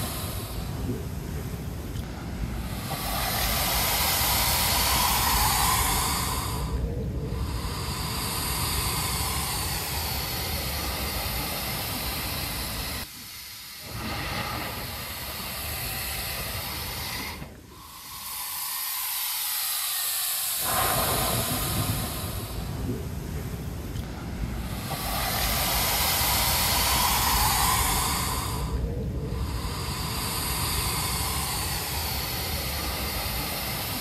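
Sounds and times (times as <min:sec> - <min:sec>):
air and water rushing through rock: 0:00.0 - 0:34.0.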